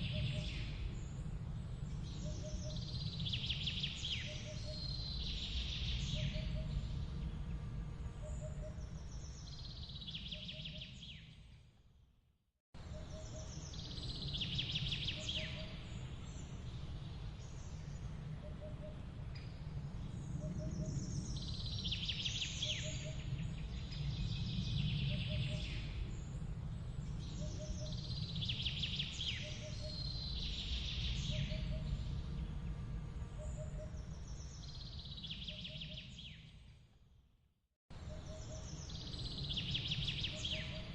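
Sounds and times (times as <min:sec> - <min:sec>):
low steady rumble: 0:00.0 - 0:11.4, 0:12.8 - 0:36.8.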